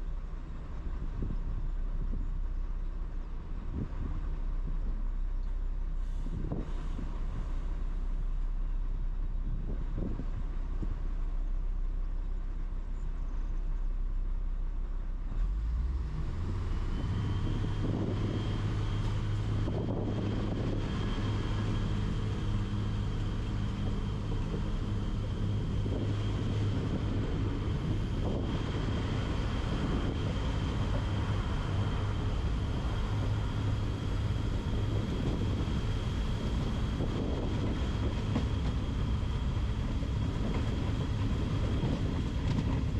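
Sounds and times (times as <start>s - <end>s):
low hum: 0.0s - 42.9s
train mechanical drone: 0.0s - 42.9s.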